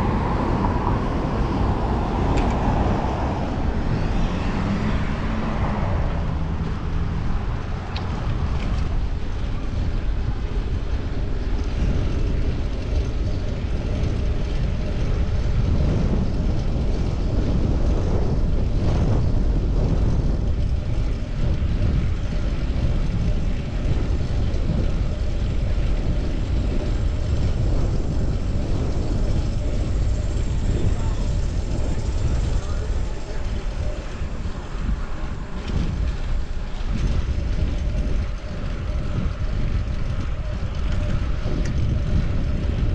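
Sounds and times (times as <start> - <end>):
road traffic: 0.0 - 42.9
wind rumble on microphone: 0.0 - 42.9.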